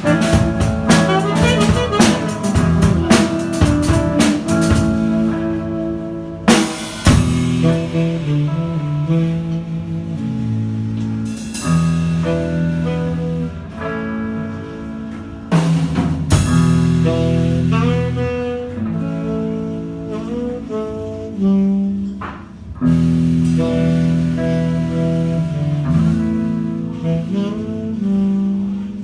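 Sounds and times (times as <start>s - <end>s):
guitar accompaniment: 0.0s - 29.0s
saxophone playing jazz: 0.0s - 29.0s.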